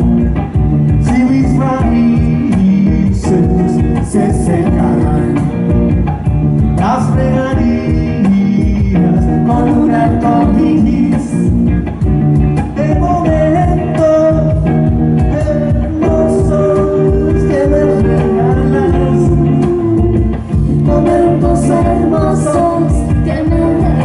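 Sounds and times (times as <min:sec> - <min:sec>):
person singing: 0:00.0 - 0:05.8, 0:06.8 - 0:11.6, 0:12.6 - 0:24.0
live rock band playing: 0:00.0 - 0:24.0.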